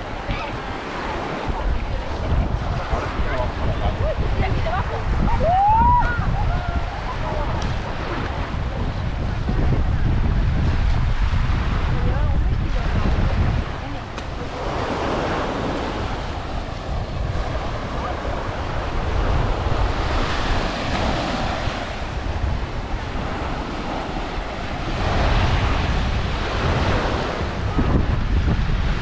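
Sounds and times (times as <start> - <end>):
surf washing on beach: 0.0 - 29.0
wind buffeting microphone: 0.0 - 29.0.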